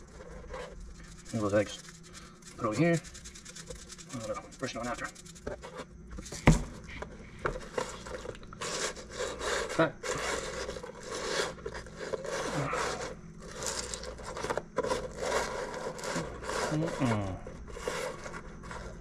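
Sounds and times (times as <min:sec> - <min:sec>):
hands rubbing seasoning into crabs: 0:00.0 - 0:05.9, 0:07.8 - 0:19.0.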